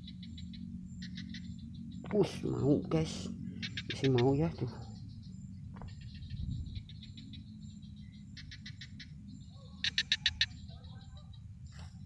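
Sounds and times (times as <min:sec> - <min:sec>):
crickets and insects chirping: 0:00.0 - 0:12.0
low steady rumble: 0:00.0 - 0:12.0
rapid pulsed insect calls: 0:00.0 - 0:12.0.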